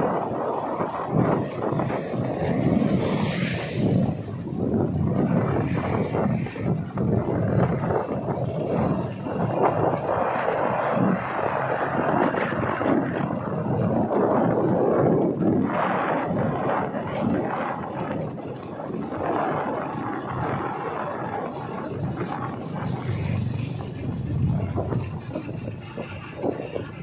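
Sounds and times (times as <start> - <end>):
vehicle road noise rumble: 0.0 - 27.0
wind rushing over microphone: 0.0 - 27.0.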